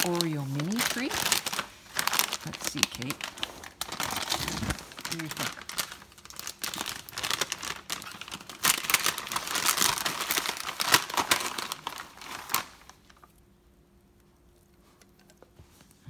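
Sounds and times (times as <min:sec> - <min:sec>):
plastic snack bag crinkling: 0:00.0 - 0:13.4.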